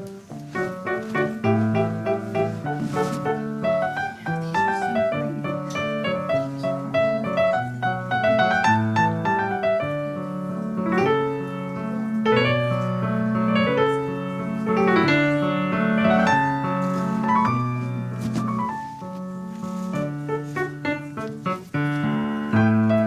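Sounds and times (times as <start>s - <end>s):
slow piano piece: 0.0s - 23.0s.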